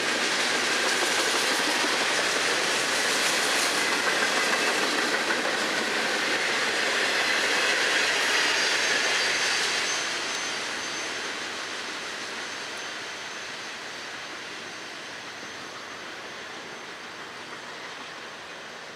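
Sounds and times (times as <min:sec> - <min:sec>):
freight train wheels on rails: 0:00.0 - 0:18.9.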